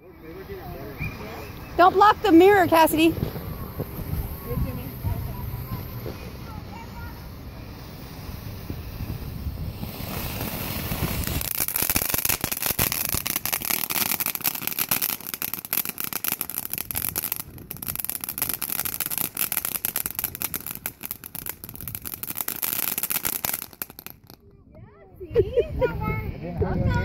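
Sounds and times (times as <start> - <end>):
firework fountain crackling: 0.0 - 24.6.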